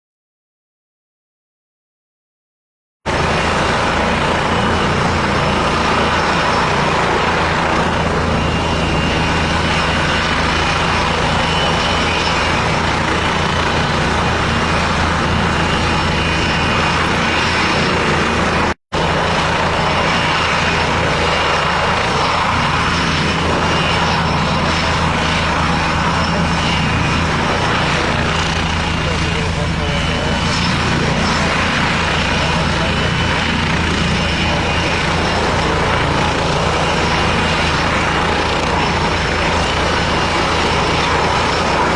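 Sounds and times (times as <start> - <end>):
helicopter engines and rotor: 3.1 - 41.9.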